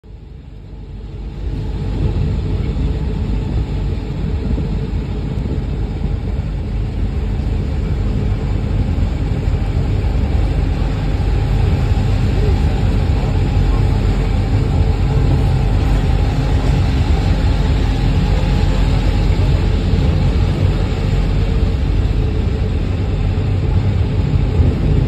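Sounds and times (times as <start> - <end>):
rack railway train rumble: 1.2 - 25.0.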